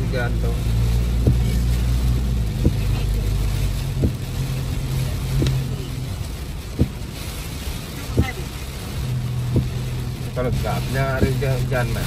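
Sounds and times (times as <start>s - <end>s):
car engine and road hum: 0.0s - 12.0s
rain on a car: 0.0s - 12.0s
windscreen wiper thud: 0.3s - 12.0s.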